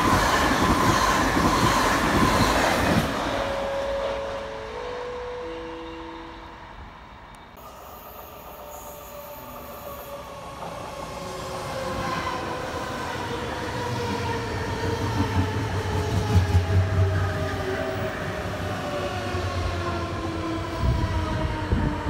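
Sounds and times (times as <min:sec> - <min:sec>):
electric train whine: 0:00.0 - 0:22.0.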